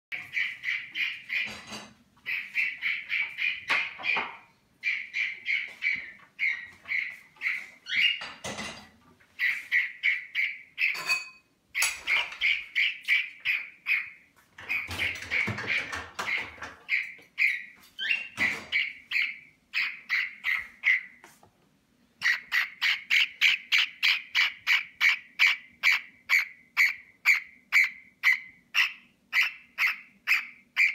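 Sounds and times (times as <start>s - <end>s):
cockatiel chirping: 0.1s - 8.4s, 9.3s - 11.2s, 11.8s - 21.2s, 22.2s - 30.9s.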